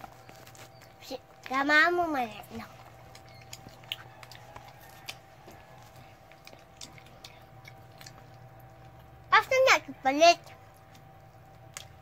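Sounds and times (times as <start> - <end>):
child chewing food: 0.0 - 12.0
faint steady hum: 0.0 - 12.0.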